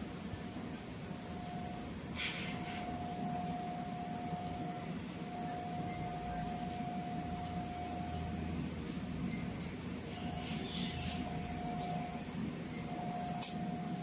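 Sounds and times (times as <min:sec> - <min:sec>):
speaker hiss: 0:00.0 - 0:14.0
thin steady tone: 0:00.0 - 0:14.0.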